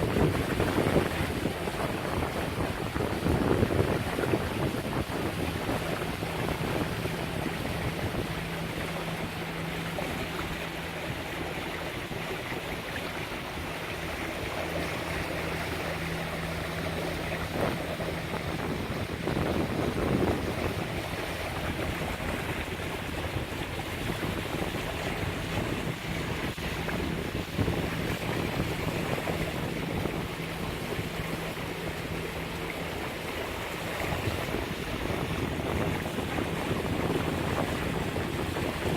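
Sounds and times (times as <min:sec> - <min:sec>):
boat engine hum: 0:00.0 - 0:38.9
water along boat hulls: 0:00.0 - 0:38.9
wind on microphone: 0:00.0 - 0:38.9.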